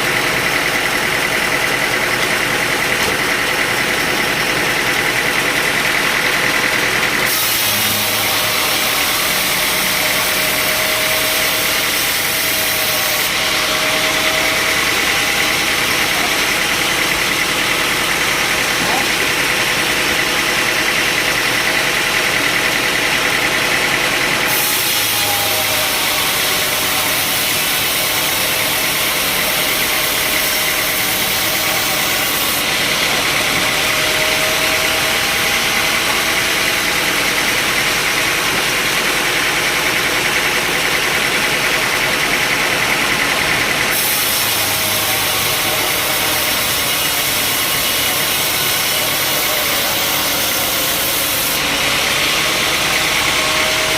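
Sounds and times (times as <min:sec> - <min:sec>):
sawmill machinery droning: 0:00.0 - 0:53.9.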